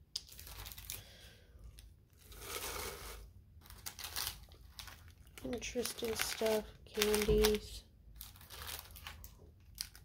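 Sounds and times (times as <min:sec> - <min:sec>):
paper and wrappers crinkling: 0:00.2 - 0:03.0, 0:03.6 - 0:10.0.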